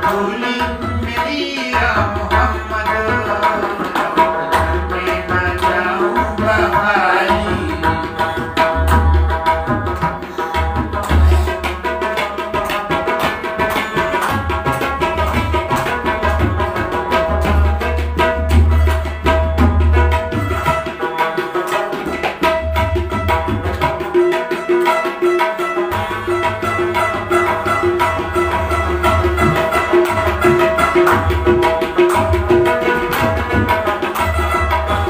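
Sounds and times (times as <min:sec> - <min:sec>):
tabla fast rhythm: 0:00.0 - 0:35.0.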